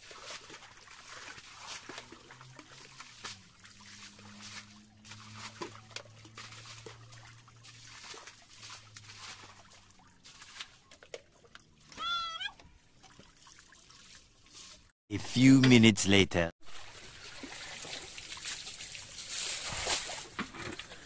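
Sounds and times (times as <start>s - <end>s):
muddy water splashing from buckets: 0.0s - 15.6s, 16.6s - 21.0s.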